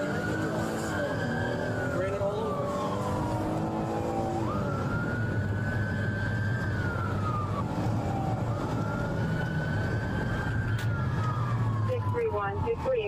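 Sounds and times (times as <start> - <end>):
engine and road noise: 0.0 - 13.0
police siren wailing: 0.0 - 13.0.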